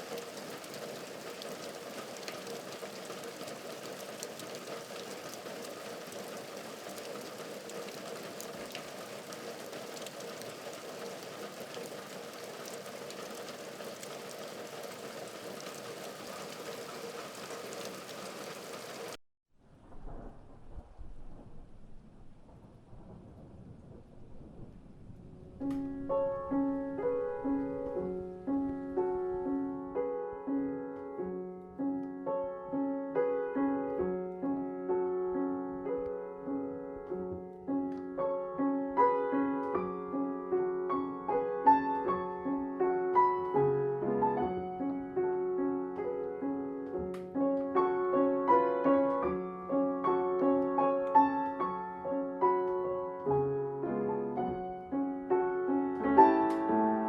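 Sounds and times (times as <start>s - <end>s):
gentle piano music: 0.0s - 18.4s, 25.5s - 57.0s.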